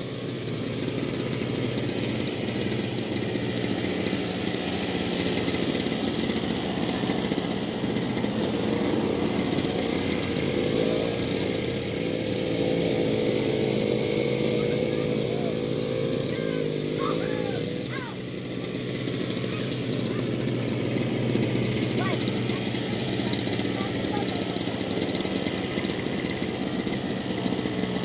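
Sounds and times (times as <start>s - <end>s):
snowblower engine running: 0.0s - 28.0s.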